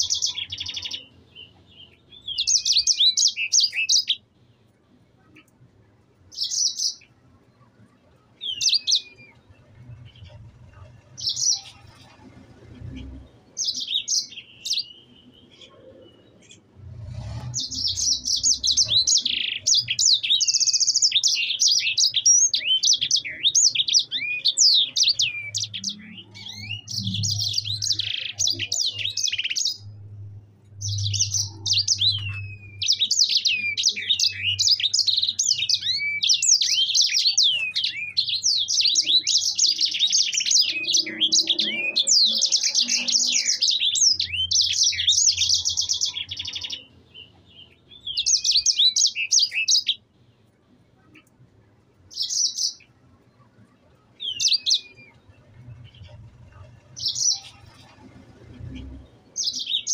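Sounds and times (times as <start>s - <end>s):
finch singing trills: 0.0s - 4.2s, 6.3s - 7.1s, 8.4s - 50.0s, 52.1s - 53.0s, 54.1s - 59.9s.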